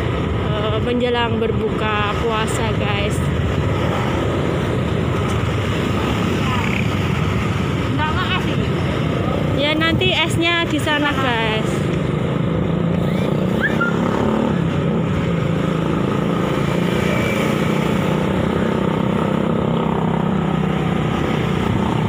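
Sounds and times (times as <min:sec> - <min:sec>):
road noise: 0:00.0 - 0:22.0
motorcycle engine running: 0:01.9 - 0:22.0.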